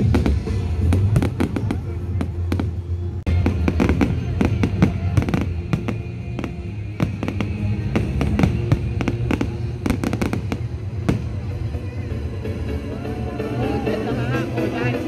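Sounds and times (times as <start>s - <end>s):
fireworks bangs and crackles: 0.0s - 12.7s
music playing: 0.0s - 15.0s.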